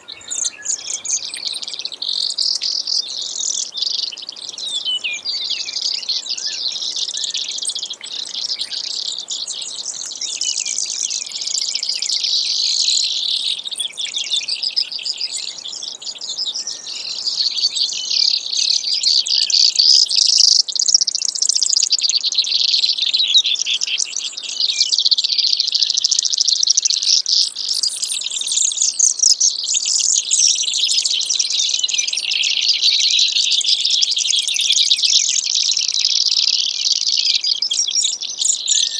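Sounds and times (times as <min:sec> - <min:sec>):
sparrow singing rapid trills: 0:00.0 - 0:38.9.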